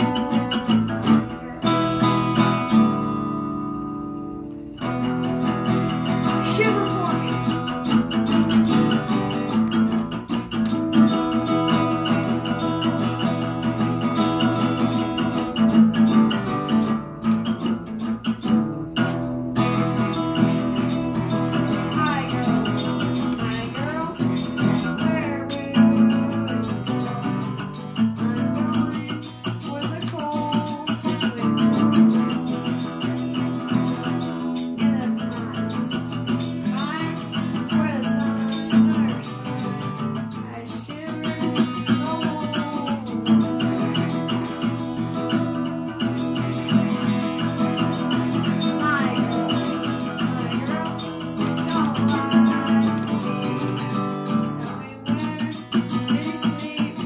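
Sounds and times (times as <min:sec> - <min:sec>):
person singing: 0:00.0 - 0:03.6, 0:04.8 - 0:57.0
acoustic guitar strumming: 0:00.0 - 0:57.0.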